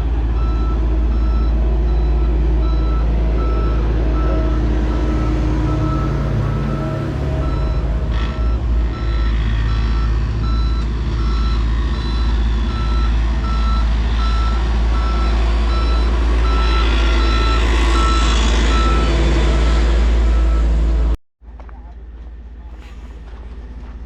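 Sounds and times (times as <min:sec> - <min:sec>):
low engine rumble: 0:00.0 - 0:24.0
reversing alarm beeping: 0:00.4 - 0:21.2.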